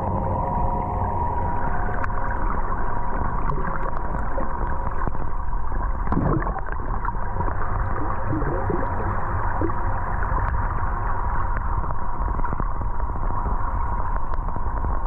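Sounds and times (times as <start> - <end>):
underwater rumbling wash: 0.0 - 15.0
bubbling gurgles: 1.5 - 15.0.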